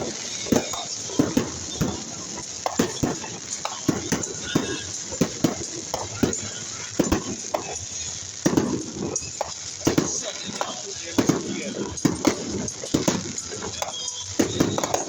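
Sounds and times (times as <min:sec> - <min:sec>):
fireworks crackling: 0:00.0 - 0:15.0
steady background hiss: 0:00.0 - 0:15.0.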